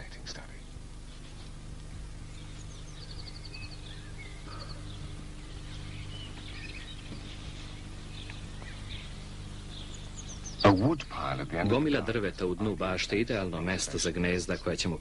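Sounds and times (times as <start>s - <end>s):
songbirds chirping: 0.0s - 15.0s
steady low hum: 0.0s - 15.0s.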